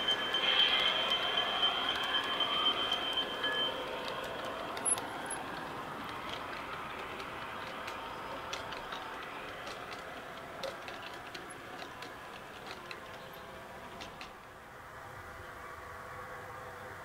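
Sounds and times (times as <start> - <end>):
light clicks from train wheels: 0.0 - 14.6
model train rolling rumble: 0.0 - 16.4.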